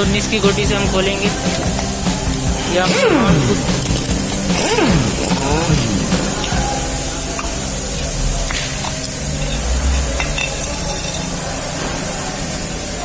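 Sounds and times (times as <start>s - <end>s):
low hum: 0.0s - 13.0s
steady hiss: 0.0s - 13.0s.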